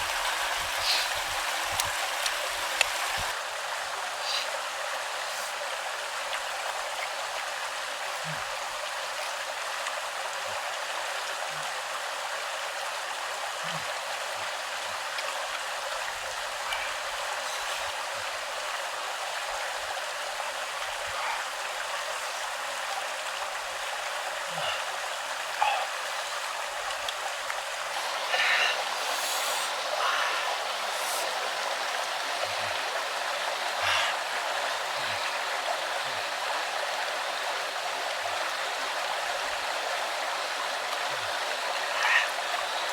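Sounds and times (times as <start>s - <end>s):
stream flowing: 0.0s - 42.9s.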